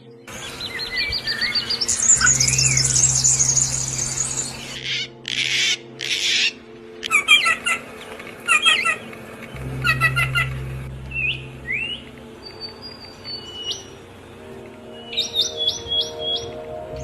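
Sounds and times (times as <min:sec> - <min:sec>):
bird chirping: 0:00.0 - 0:17.0
high buzzy bird trill: 0:00.0 - 0:17.0
harsh rasping bird calls: 0:00.3 - 0:17.0.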